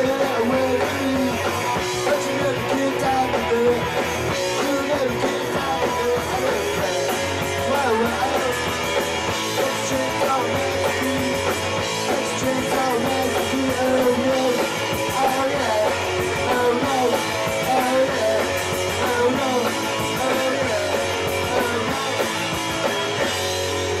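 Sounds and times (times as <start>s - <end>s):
person singing: 0.0s - 23.2s
punk rock band playing: 0.0s - 24.0s.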